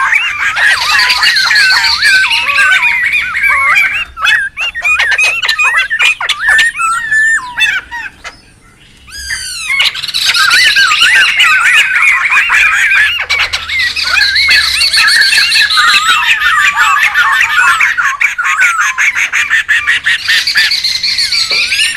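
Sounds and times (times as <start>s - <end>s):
birds squawking and chattering: 0.0s - 21.9s.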